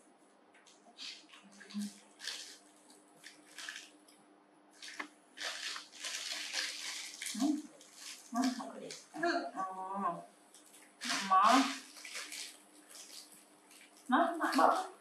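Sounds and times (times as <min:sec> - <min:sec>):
plastic snack packet crinkling: 0:00.6 - 0:04.1, 0:04.8 - 0:09.2, 0:10.5 - 0:15.0.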